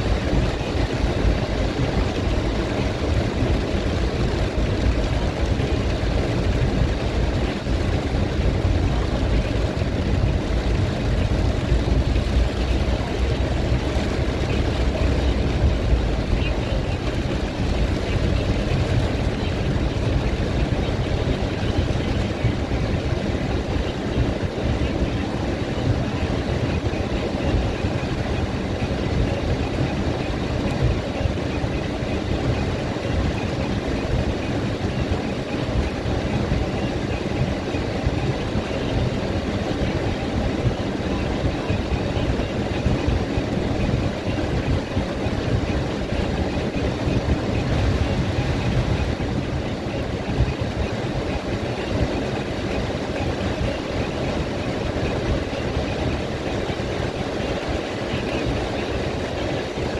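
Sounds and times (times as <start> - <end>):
heavy rain on car roof: 0.0 - 59.9.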